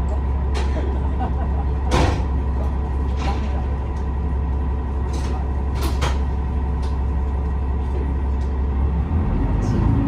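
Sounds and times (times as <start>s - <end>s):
diesel railcar engine droning: 0.0s - 10.0s.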